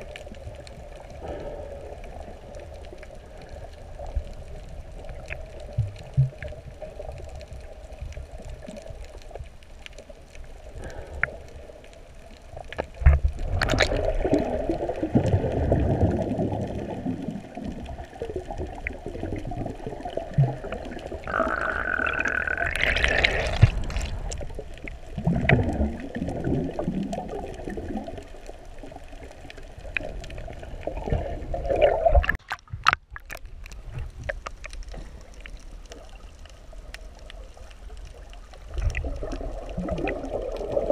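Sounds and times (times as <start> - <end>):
muffled underwater sloshing: 0.0 - 40.9.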